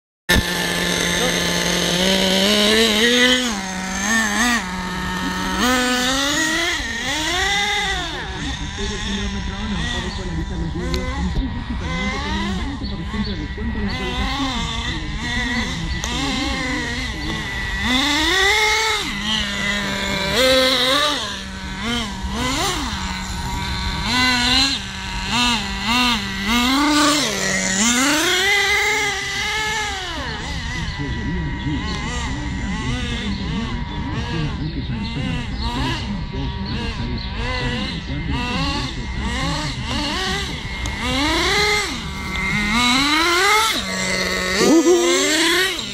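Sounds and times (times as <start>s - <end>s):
small engine with throttle blips: 0.3s - 45.9s.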